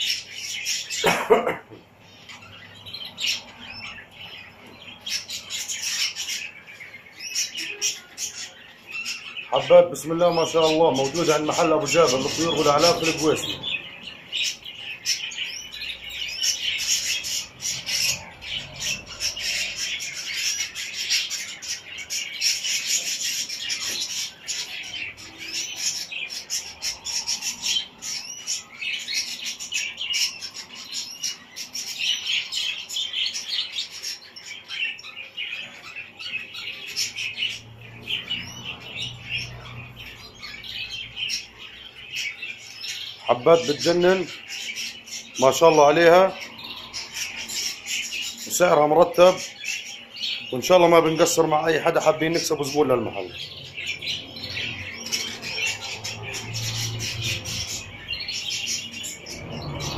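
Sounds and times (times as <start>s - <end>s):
canaries chirping: 0.0s - 59.9s.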